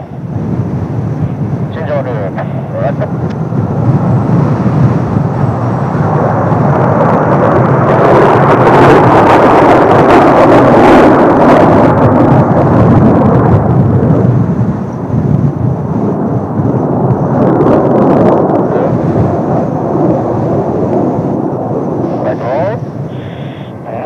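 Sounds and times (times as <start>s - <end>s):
jet roar: 0.0s - 24.0s.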